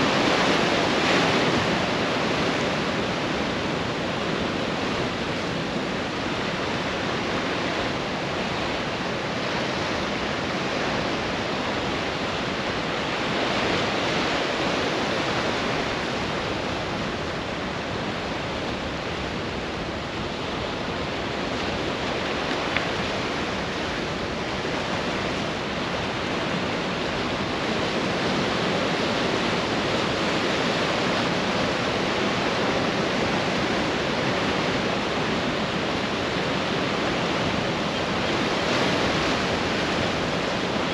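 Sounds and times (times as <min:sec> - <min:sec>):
surf waves breaking on beach: 0:00.0 - 0:40.9.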